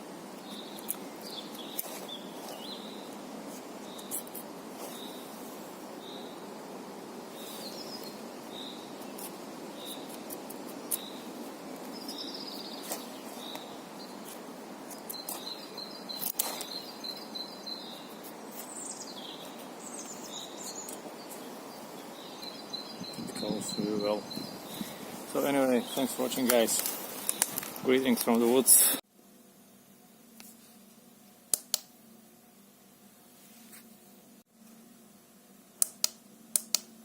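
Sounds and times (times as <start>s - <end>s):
background hum: 0.0s - 37.0s.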